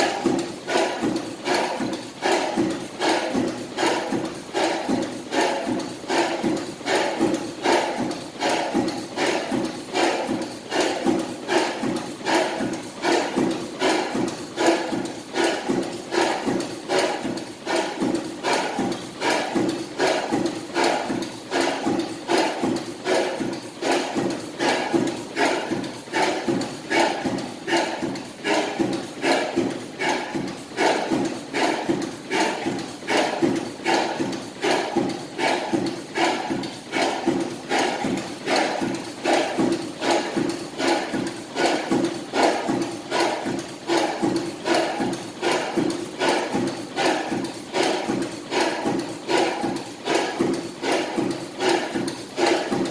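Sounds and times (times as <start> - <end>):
oil engine knocking: 0.0 - 52.9.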